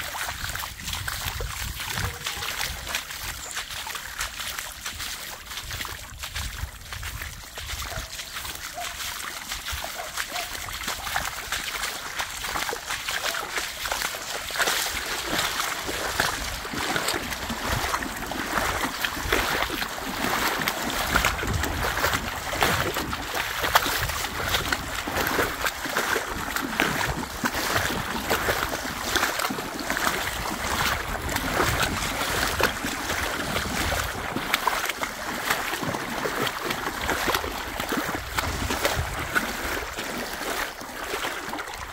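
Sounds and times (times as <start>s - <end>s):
splashing steps in water: 0.0s - 41.9s.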